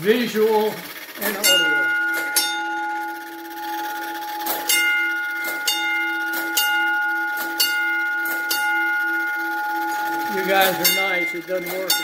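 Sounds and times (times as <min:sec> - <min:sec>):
alarm gong strokes ringing: 0:01.3 - 0:12.0.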